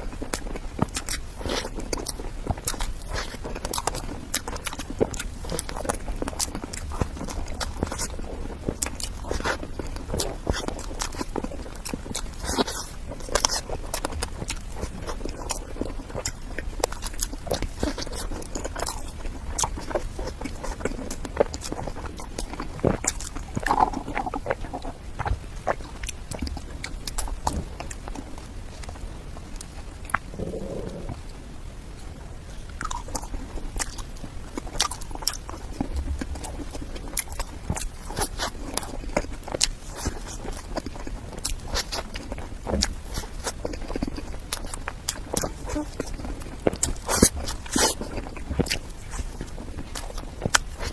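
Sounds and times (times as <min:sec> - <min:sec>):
chewing and wet mouth sounds: 0:00.0 - 0:50.9.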